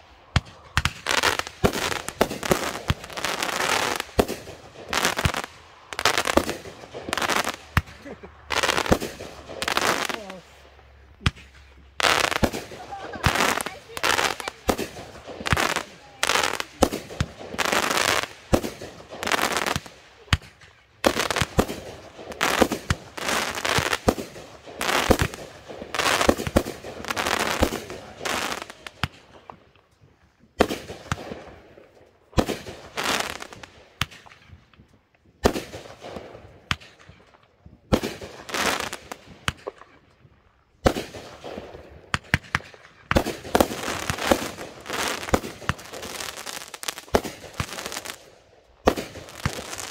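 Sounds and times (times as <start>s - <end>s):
fireworks bangs: 0.0s - 29.7s, 30.5s - 34.8s, 35.4s - 40.0s, 40.8s - 49.9s
fireworks crackle and hiss: 0.0s - 49.9s.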